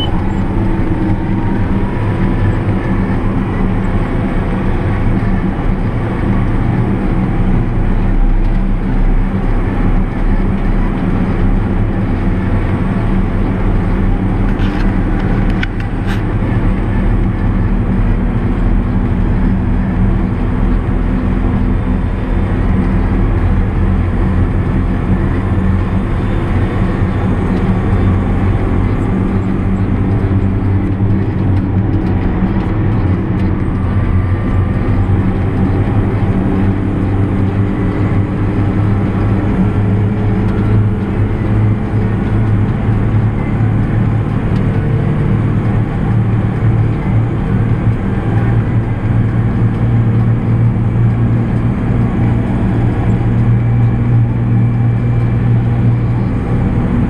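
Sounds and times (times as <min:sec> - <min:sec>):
tractor diesel engine running: 0:00.0 - 0:57.0
tyre and road noise: 0:00.0 - 0:57.0.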